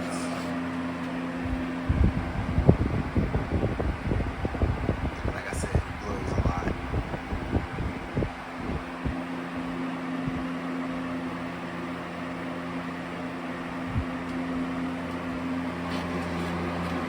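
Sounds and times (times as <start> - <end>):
box fan air rushing: 0.0 - 17.0
fan motor hum: 0.0 - 17.0.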